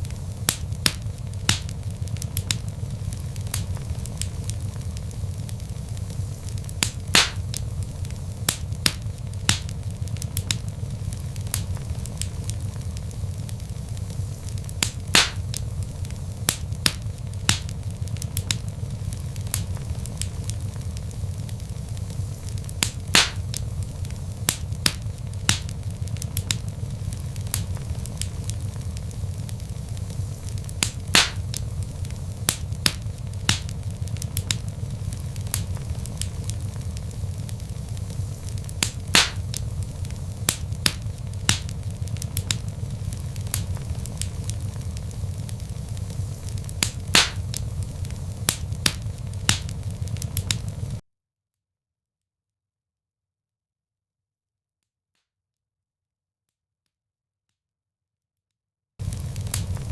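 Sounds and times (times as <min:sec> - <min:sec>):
wood log fire crackling: 0:00.0 - 0:51.0, 0:59.0 - 0:59.9.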